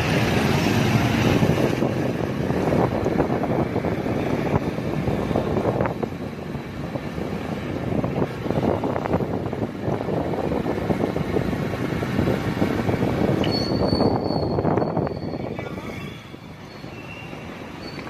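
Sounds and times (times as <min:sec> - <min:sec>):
road noise: 0:00.0 - 0:18.0
wind noise: 0:00.0 - 0:18.0.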